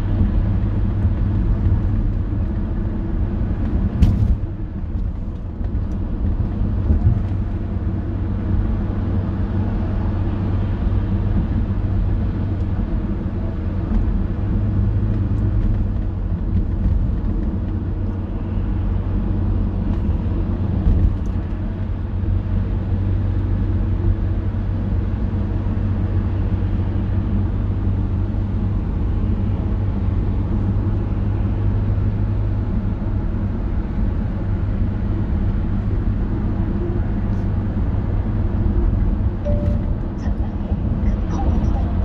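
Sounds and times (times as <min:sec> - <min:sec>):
car road and engine noise: 0:00.0 - 0:42.0.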